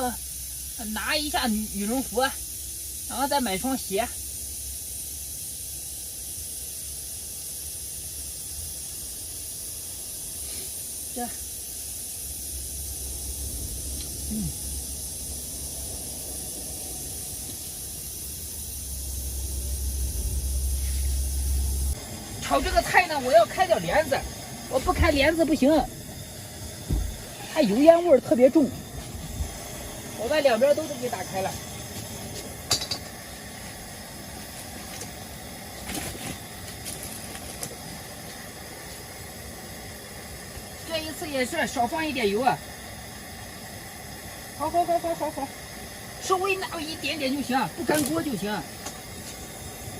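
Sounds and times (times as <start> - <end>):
low steady hum: 0.0 - 49.9
steady hissing noise: 0.0 - 49.9.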